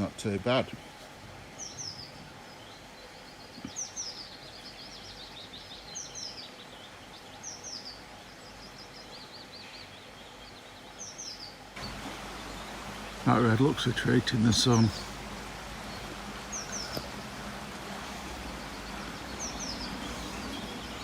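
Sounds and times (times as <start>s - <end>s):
low background hiss: 0.0s - 21.0s
songbirds chirping: 0.0s - 21.0s.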